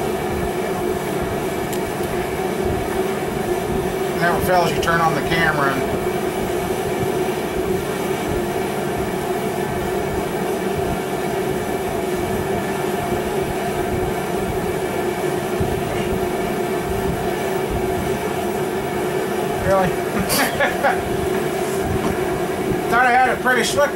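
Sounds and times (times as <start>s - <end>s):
heater hum: 0.0s - 23.9s.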